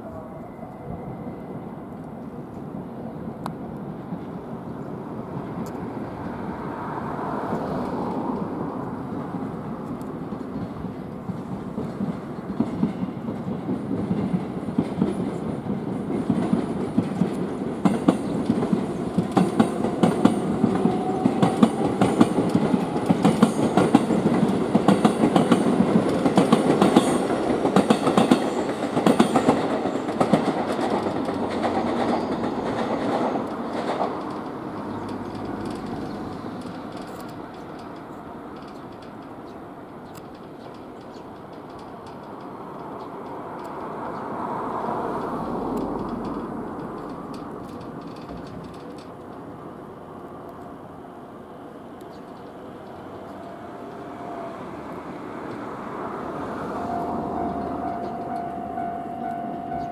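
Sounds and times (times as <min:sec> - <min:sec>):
electric train rolling slowly: 0:00.0 - 0:59.9.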